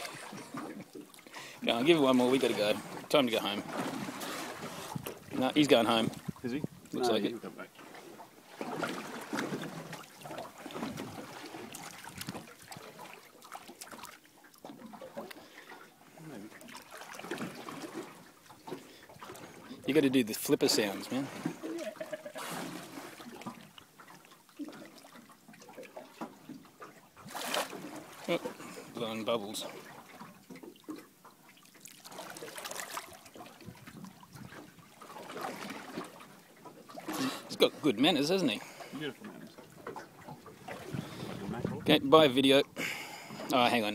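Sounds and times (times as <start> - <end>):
small splashes: 0.0 - 19.9, 20.8 - 41.7
water lapping against hull: 0.0 - 43.9.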